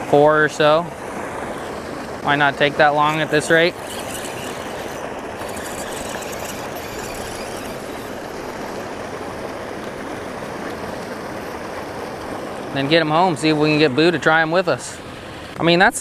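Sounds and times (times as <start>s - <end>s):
water gushing from a pipe: 0.0s - 15.6s.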